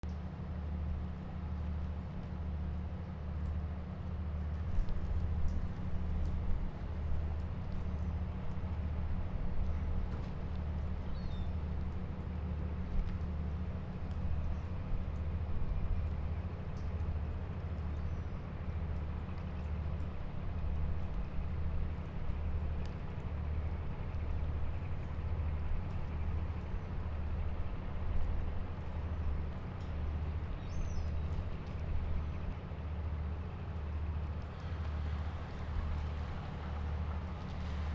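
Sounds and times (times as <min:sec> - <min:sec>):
boat engine idling: 0:00.1 - 0:37.9.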